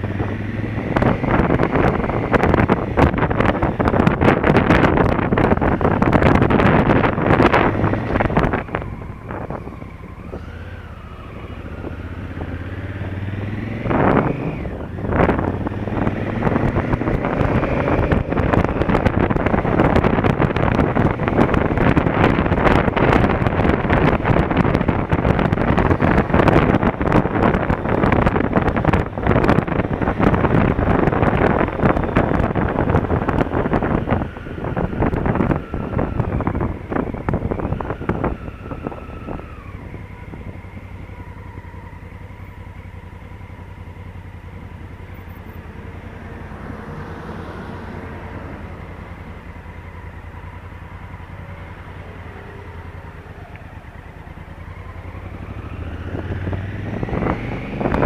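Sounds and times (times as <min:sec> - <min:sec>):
motorcycle engine running: 0:00.0 - 0:47.0, 0:47.7 - 0:58.0
wind rush on microphone: 0:00.0 - 0:58.0.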